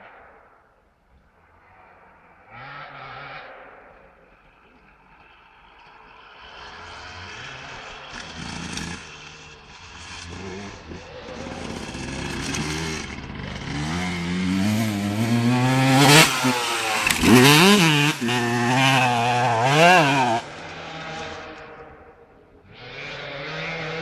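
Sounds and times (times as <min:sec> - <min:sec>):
dirt bike engine revving: 0:02.5 - 0:03.7, 0:05.7 - 0:24.0.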